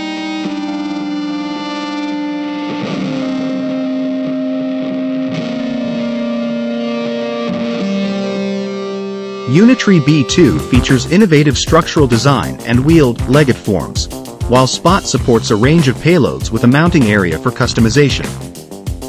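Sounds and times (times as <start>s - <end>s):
music with long held notes: 0.0s - 19.0s.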